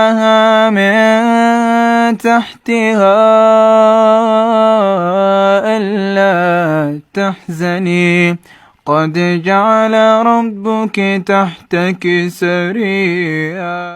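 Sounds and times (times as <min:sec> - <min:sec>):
person reciting melodically: 0:00.0 - 0:13.9.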